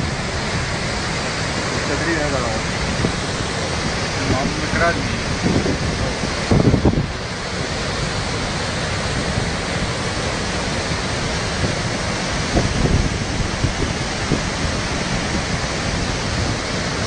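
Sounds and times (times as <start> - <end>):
river torrent rushing: 0.0 - 17.0.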